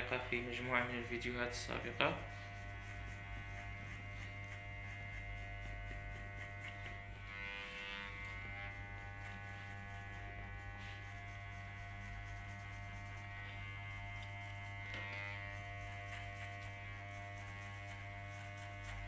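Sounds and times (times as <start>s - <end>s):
electric hair clipper buzzing: 0.0s - 19.0s.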